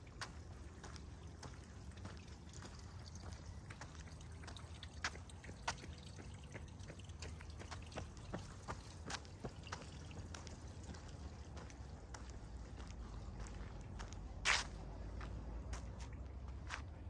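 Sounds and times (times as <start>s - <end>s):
low steady rumble: 0.0s - 17.0s
water trickling and dripping: 0.0s - 17.0s.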